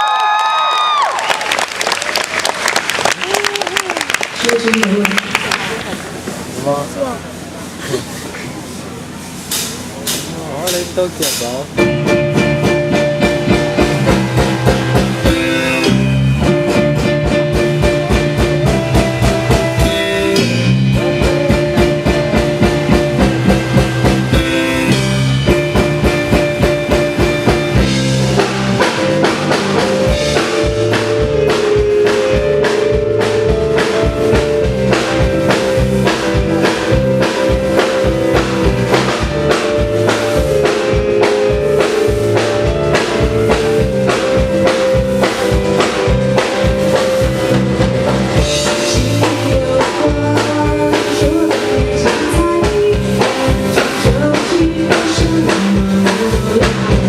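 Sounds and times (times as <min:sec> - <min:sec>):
bass notes: 0:04.5 - 0:57.0
piano notes: 0:08.6 - 0:57.0
drum kit fast beat: 0:09.5 - 0:57.0.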